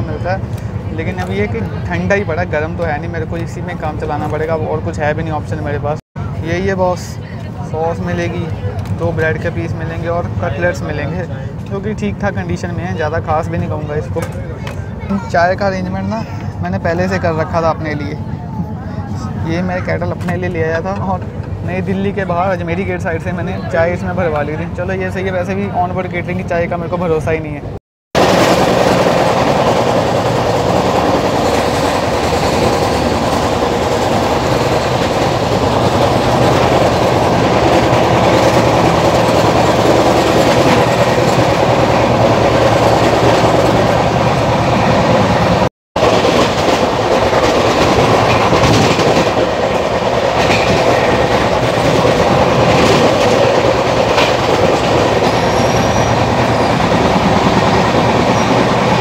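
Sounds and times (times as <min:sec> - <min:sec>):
train wheels rumbling on rails: 0:00.0 - 0:26.5, 0:28.2 - 0:59.0.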